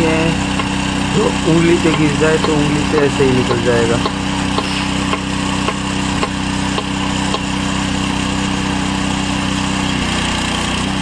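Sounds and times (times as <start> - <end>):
hydraulic machine running: 0.0 - 11.0.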